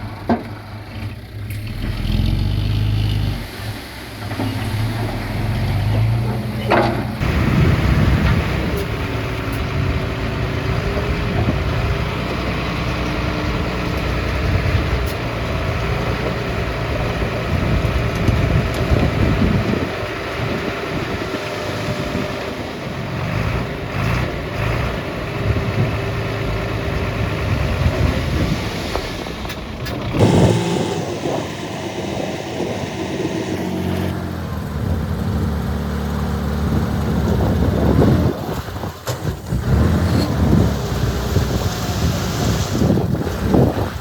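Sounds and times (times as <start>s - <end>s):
heavy machinery diesel engines: 0.0s - 44.0s.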